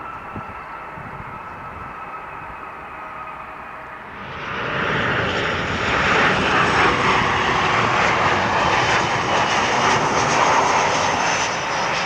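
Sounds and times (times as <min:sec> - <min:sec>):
jet engines whining: 0:00.0 - 0:12.0.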